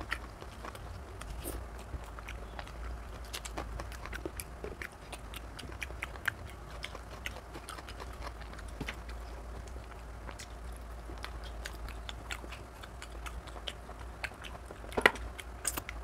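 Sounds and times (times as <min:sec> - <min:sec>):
mouth smacks and clicks: 0:00.0 - 0:16.0
person chewing wetly: 0:00.0 - 0:16.0
steady low hum: 0:00.0 - 0:16.0.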